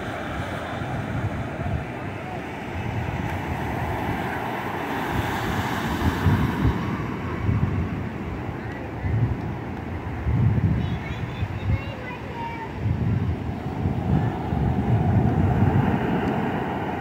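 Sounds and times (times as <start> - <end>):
ocean surf breaking: 0.0 - 17.0
wind rumbling on microphone: 0.0 - 17.0.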